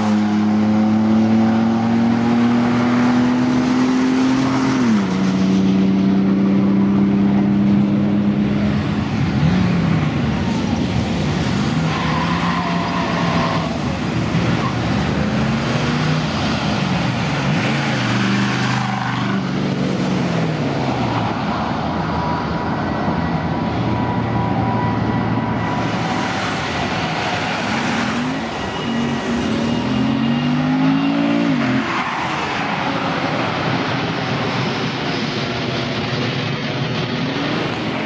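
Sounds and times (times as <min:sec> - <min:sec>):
background traffic: 0:00.0 - 0:38.0
car engines revving: 0:00.0 - 0:38.0.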